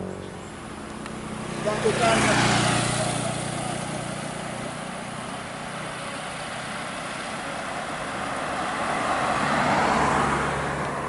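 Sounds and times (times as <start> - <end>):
passing vehicle engine: 0.0 - 11.0
tyre and road noise: 0.0 - 11.0
vehicle approaching: 0.0 - 11.0.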